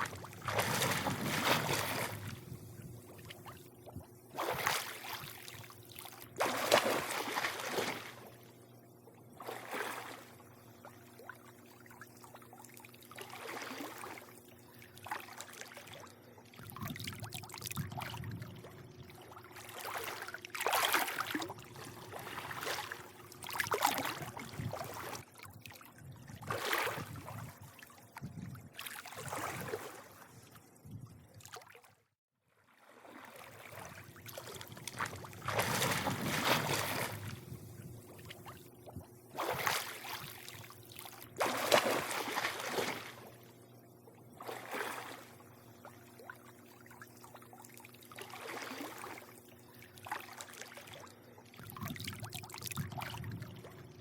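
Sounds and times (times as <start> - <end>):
steady low hum: 0.0 - 31.5, 33.3 - 54.0
pool water lapping: 0.0 - 54.0.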